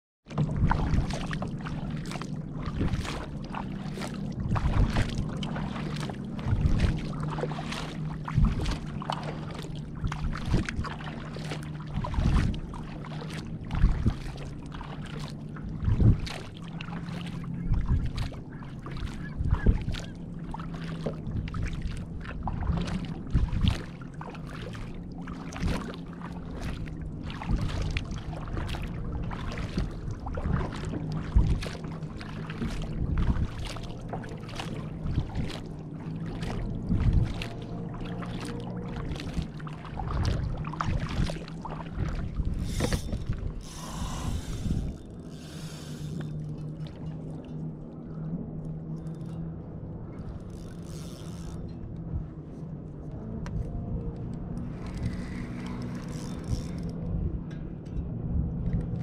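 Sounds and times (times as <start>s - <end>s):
kayak paddle splashing: 0.3s - 49.4s, 50.0s - 52.4s, 53.5s - 57.2s
steady low hum: 0.3s - 59.0s.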